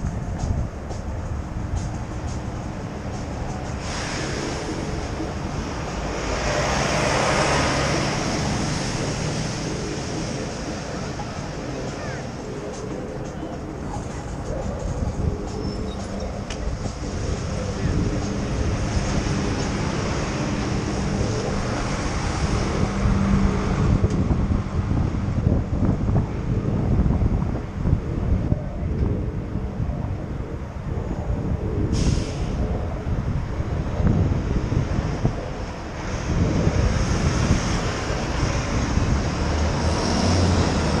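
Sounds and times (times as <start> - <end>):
engine hum: 0.0 - 41.0
traffic noise: 0.0 - 41.0
wind buffeting microphone: 0.0 - 41.0.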